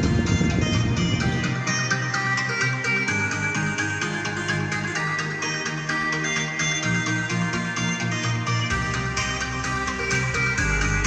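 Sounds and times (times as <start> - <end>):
electronic dance music over loudspeakers: 0.0 - 11.0.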